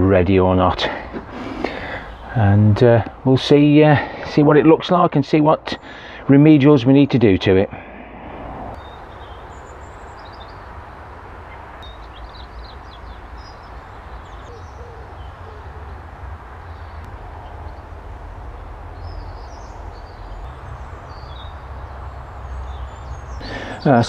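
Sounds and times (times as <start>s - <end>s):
small birds chirping: 0.6s - 4.7s, 5.4s - 6.3s, 7.7s - 24.0s.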